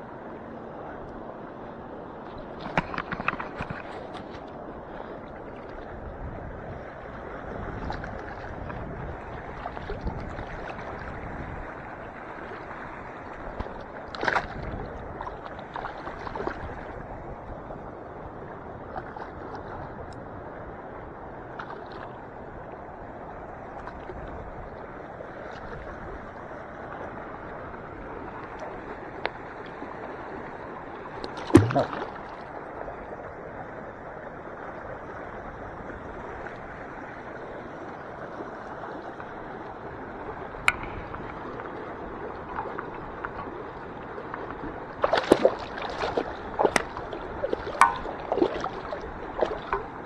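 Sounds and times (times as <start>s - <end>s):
water sloshing and lapping: 2.1s - 17.8s, 18.6s - 20.6s, 21.2s - 50.0s.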